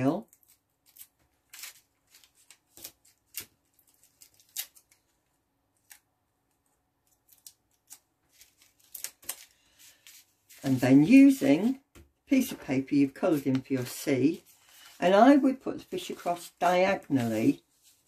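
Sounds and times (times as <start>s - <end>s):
paper and tape rustling: 0.3s - 5.2s, 7.0s - 11.8s, 13.1s - 18.0s.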